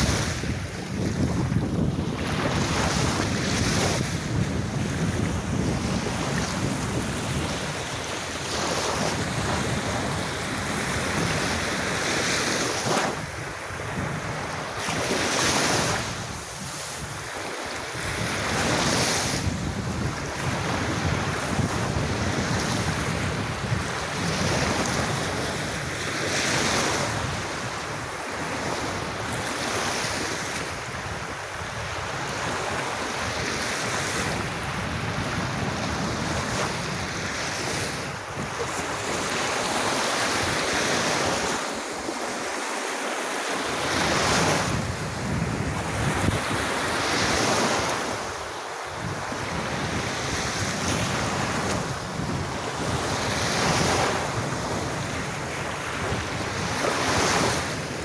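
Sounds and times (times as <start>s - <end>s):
wind rumbling on microphone: 0.0s - 42.5s, 43.6s - 58.0s
sea waves washing onto beach: 0.0s - 58.0s.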